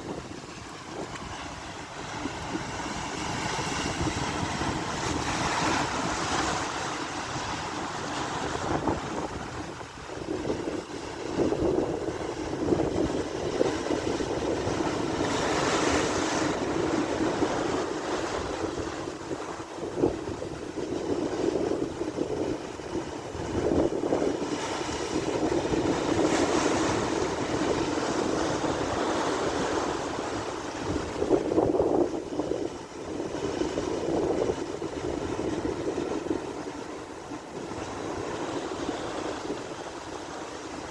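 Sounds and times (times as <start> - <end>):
rough sea surf: 0.0 - 40.9
wind buffeting microphone: 0.0 - 40.9.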